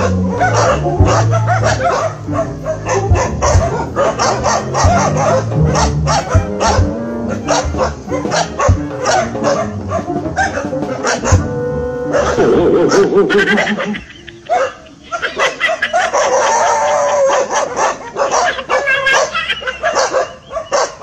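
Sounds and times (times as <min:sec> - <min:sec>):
background music: 0:00.0 - 0:21.0
dogs barking and yipping: 0:00.0 - 0:21.0.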